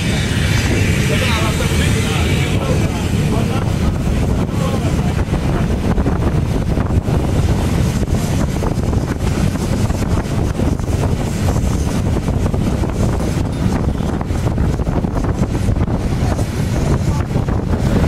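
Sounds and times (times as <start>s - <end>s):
train rumbling: 0.0s - 18.0s
wind buffeting microphone: 0.0s - 18.0s.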